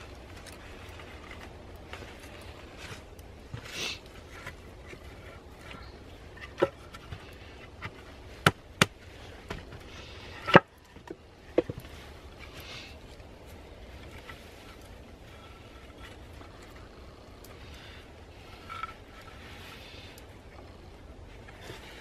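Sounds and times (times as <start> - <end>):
rustling: 0.0 - 22.0.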